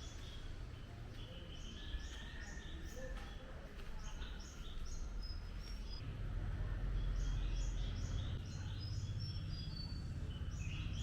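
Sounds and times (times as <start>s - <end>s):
birds chirping: 0.0s - 6.1s, 6.7s - 11.0s.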